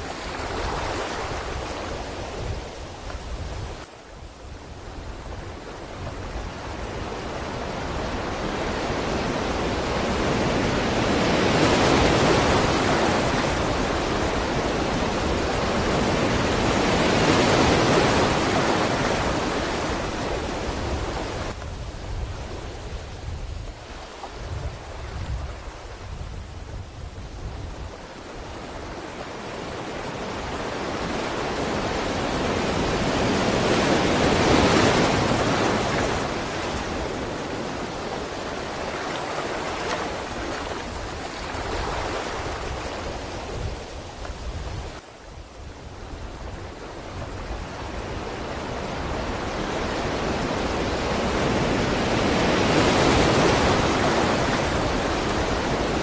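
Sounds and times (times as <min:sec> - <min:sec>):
breaking ocean waves: 0:00.0 - 0:56.0.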